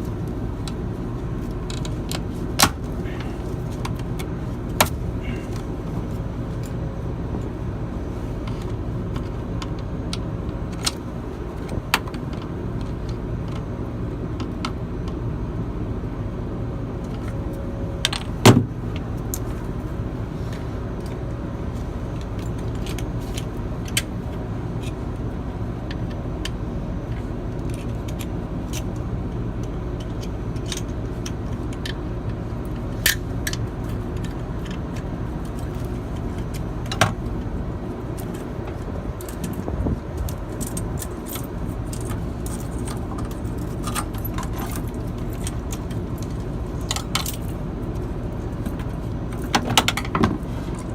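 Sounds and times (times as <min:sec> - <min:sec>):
low machinery hum: 0:00.0 - 0:50.9.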